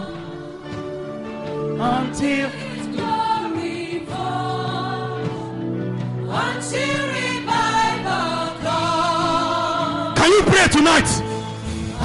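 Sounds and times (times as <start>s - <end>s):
gospel choir and lead singer: 0.0s - 12.0s.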